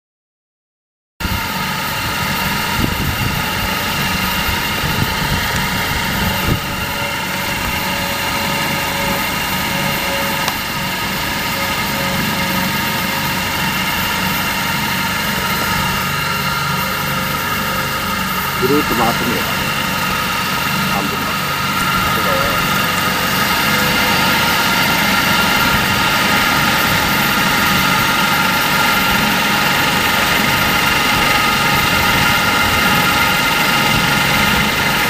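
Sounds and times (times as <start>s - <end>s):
drone motors whining: 1.3s - 35.0s.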